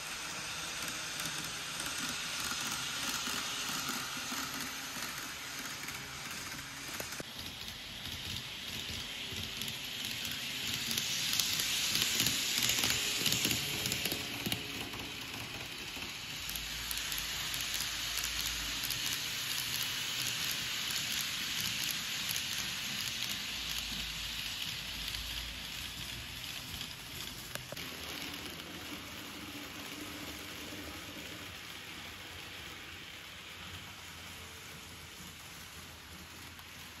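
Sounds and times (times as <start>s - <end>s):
model train wheels on rail: 0.0s - 37.0s.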